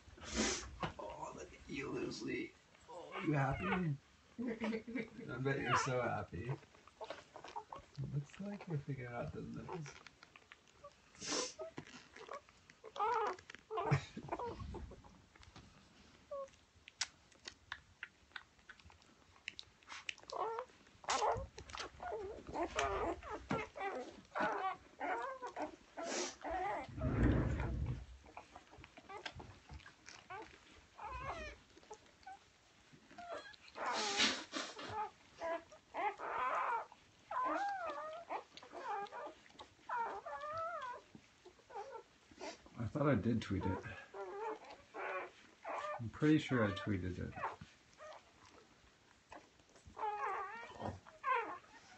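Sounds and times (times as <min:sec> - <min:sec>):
puppies clicking while nursing: 0:00.1 - 0:03.8, 0:04.8 - 0:26.9, 0:28.1 - 0:51.9
puppies squeaking and whimpering: 0:00.2 - 0:51.9.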